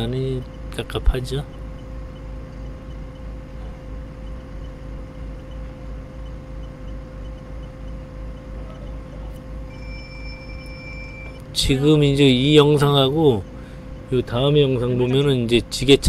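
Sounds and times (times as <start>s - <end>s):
high steady beep: 0.0s - 15.9s
forklift engine idling: 0.0s - 16.0s.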